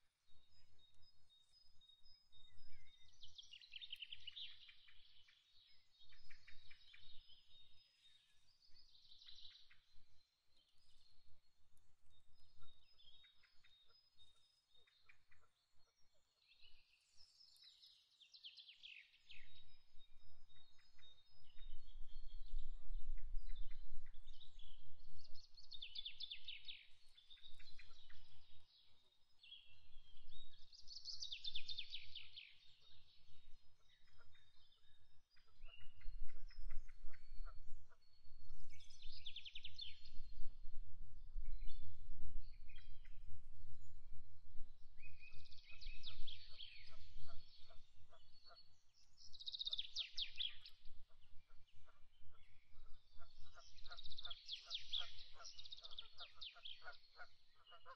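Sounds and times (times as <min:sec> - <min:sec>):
faint bird chirps: 0:00.3 - 0:40.7, 0:44.6 - 0:57.9.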